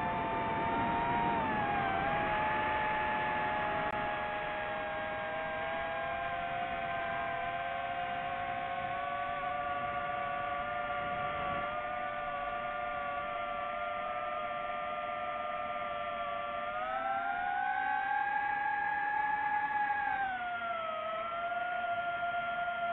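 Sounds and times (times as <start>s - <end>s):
drone propellers whining: 0.0s - 22.9s.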